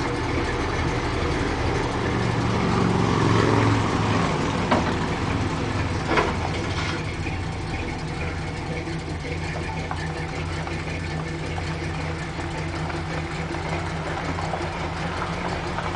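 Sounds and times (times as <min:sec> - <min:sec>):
truck engine running low hum: 0:00.0 - 0:15.9.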